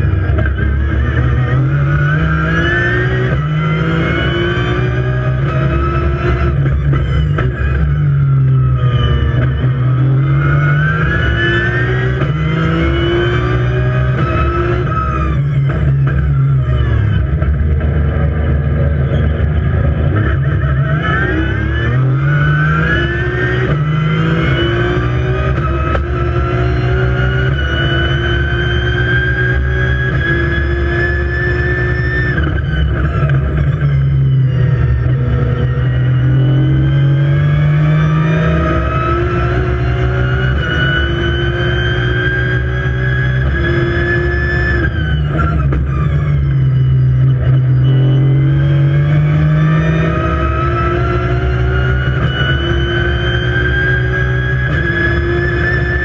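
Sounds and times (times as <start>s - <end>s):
racing engine accelerating: 0.0s - 56.0s.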